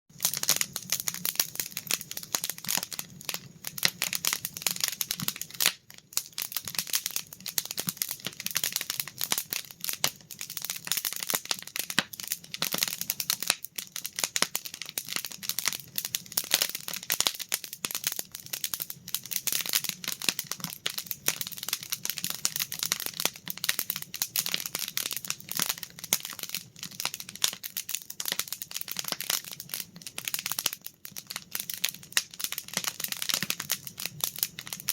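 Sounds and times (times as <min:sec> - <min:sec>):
campfire crackling: 0:00.1 - 0:34.9.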